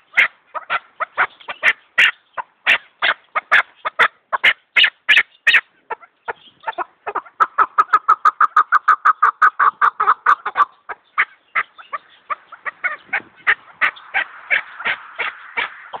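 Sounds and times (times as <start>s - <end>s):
partridge clucking calls: 0.0s - 16.0s.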